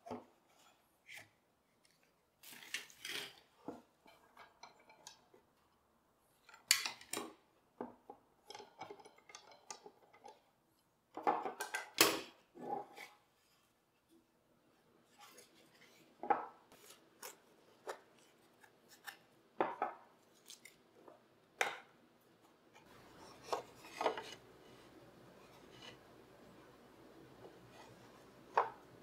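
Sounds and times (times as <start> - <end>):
faint steady hum: 3.4 - 29.0.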